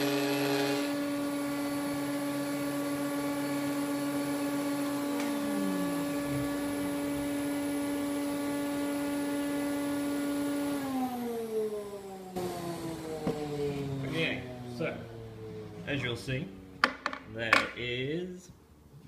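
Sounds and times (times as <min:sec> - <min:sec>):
router running and winding down: 0:00.0 - 0:15.8.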